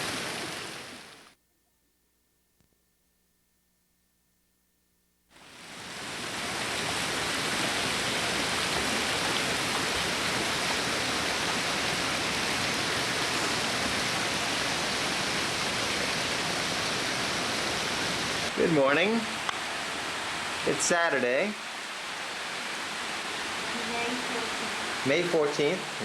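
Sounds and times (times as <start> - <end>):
heavy rain downpour: 0.0 - 1.3, 5.4 - 26.0.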